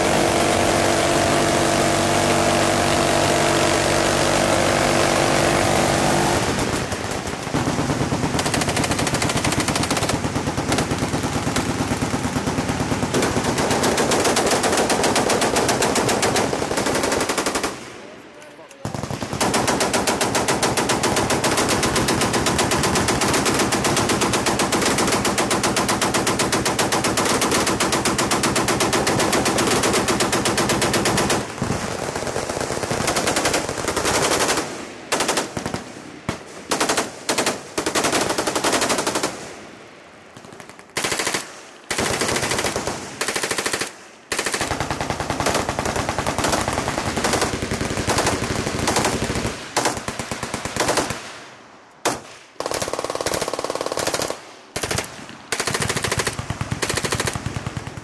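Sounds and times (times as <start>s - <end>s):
machine guns firing: 0.0s - 18.0s, 18.7s - 39.6s, 40.3s - 51.4s, 52.0s - 58.0s.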